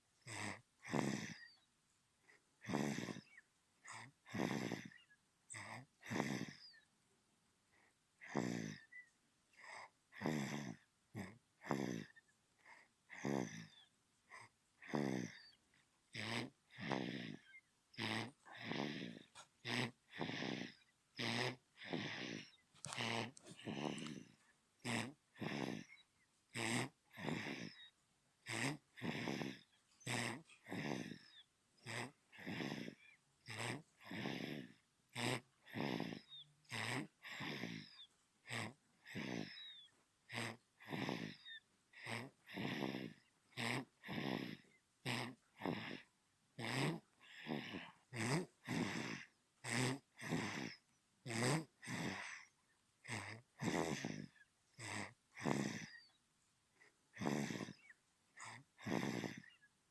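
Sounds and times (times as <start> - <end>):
baby snoring: 0.2 - 1.7, 2.3 - 6.8, 8.2 - 56.2, 56.8 - 59.6.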